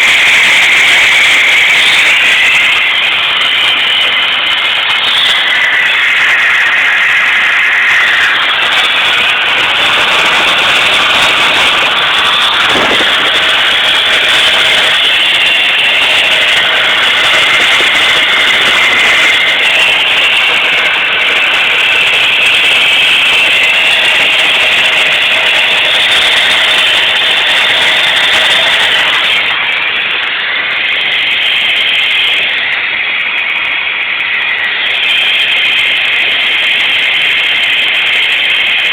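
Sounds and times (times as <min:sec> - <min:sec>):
engine rough idle: 0:00.0 - 0:38.9.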